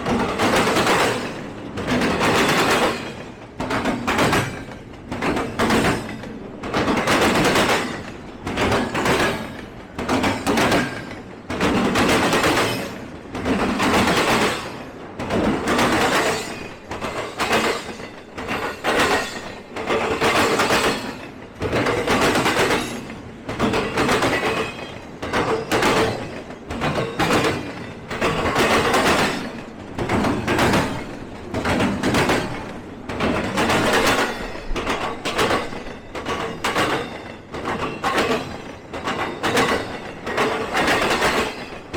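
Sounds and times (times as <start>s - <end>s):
freight train wheels clattering: 0.0s - 41.9s.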